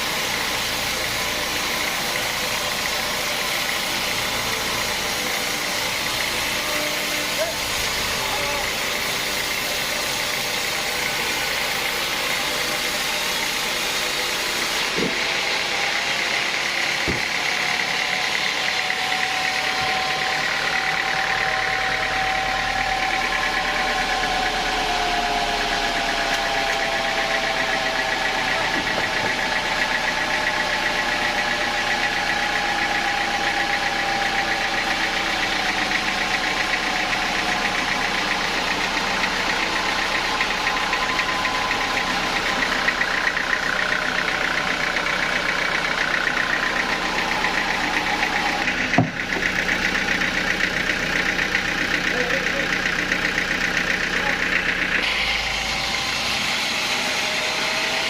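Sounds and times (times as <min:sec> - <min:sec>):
sawmill saw cutting timber: 0:00.0 - 0:58.0.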